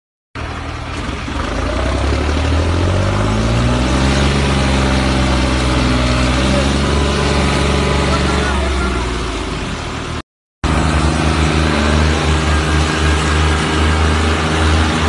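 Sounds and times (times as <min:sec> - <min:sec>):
wheels spinning in dirt: 0:00.4 - 0:08.9, 0:10.7 - 0:15.0
tractor diesel engine under load: 0:00.4 - 0:15.0.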